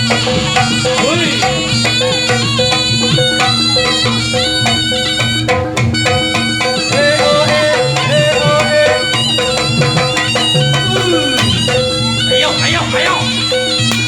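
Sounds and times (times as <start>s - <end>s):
metallic gamelan notes: 0.0s - 14.0s
shrill reed wind instrument melody: 0.0s - 14.0s
steady drumming: 0.0s - 14.0s.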